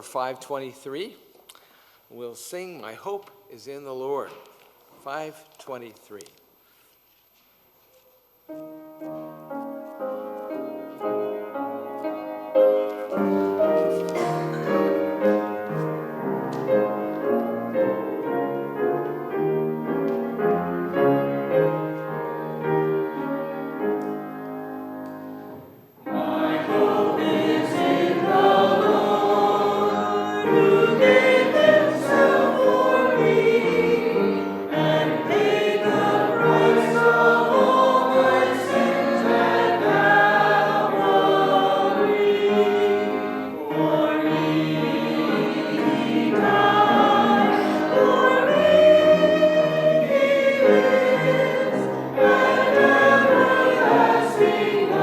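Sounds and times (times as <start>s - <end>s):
congregation singing a hymn: 10.0s - 55.0s.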